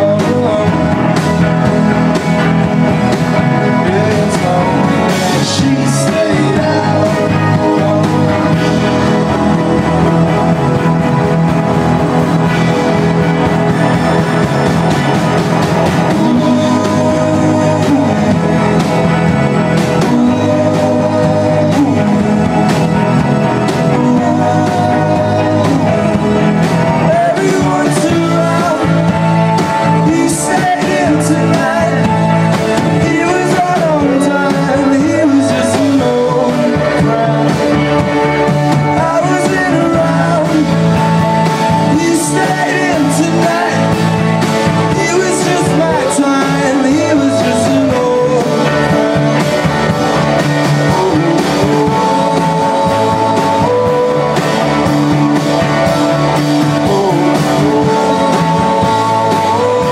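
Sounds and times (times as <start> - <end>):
man singing: 0.0 - 59.9
rock band playing live: 0.0 - 59.9.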